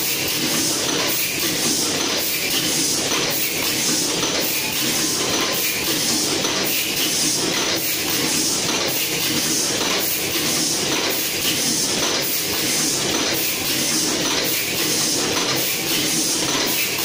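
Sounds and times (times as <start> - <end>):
machine clattering: 0.0 - 17.0.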